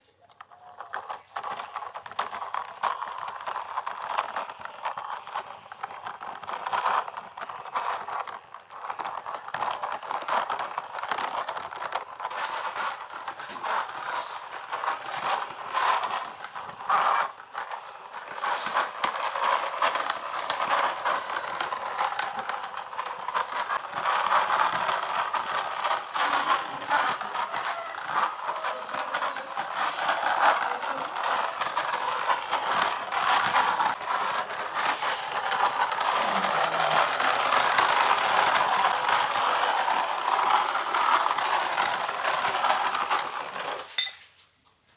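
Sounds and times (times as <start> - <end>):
plastic toy trucks rattling: 0.0 - 44.2.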